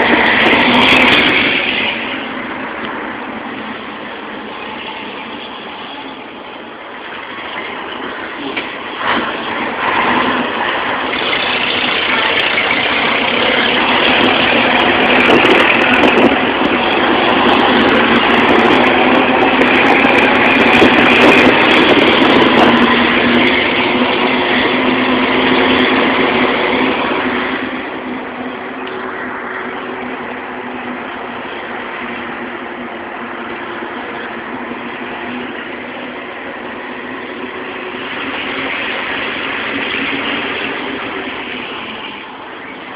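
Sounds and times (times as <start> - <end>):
loud diesel truck engine: 0.0 - 42.9.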